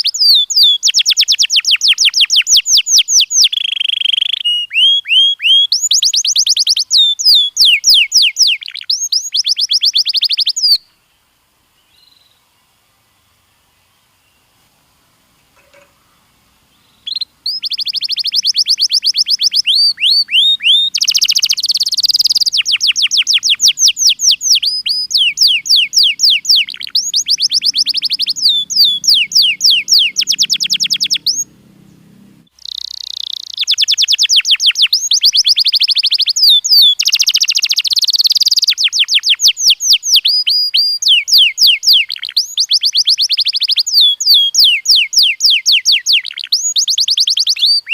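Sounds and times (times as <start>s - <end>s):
canary singing trills: 0.0s - 11.0s, 15.6s - 47.9s.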